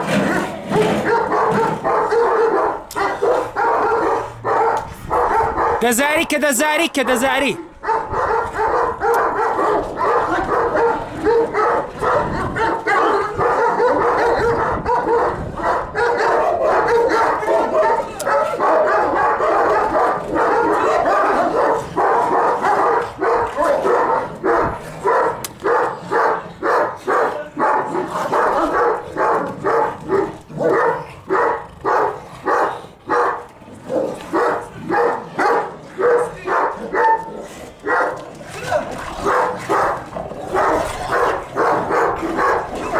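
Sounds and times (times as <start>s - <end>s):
dogs barking in a fight: 0.0s - 42.9s.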